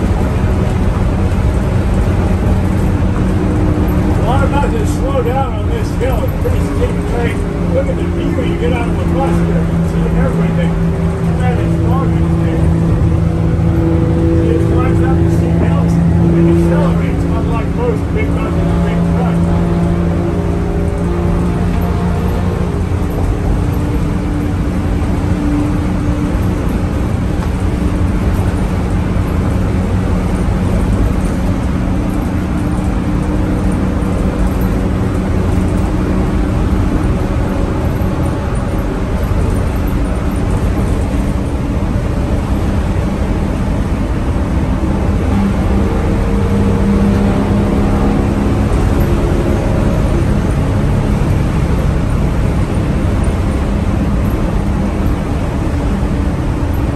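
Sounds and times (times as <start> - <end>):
bus engine droning: 0.0 - 56.9
road and wind noise: 0.0 - 56.9.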